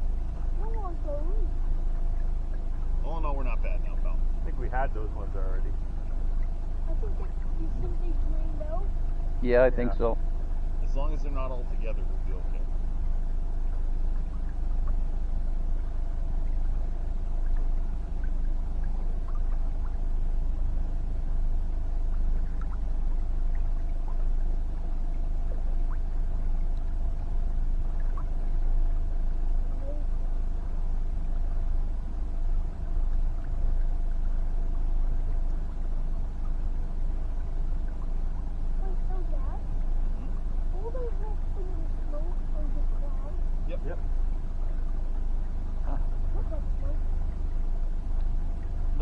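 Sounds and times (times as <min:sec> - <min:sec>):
boat motor running: 0:00.0 - 0:49.0.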